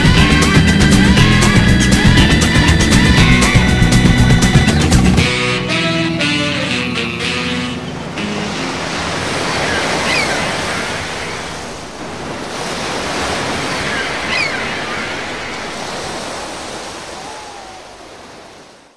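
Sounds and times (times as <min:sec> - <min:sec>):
sea surf washing: 0:00.0 - 0:18.9.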